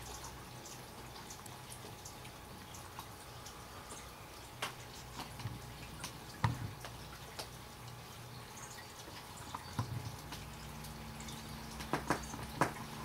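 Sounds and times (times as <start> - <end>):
water dripping: 0.0 - 13.0.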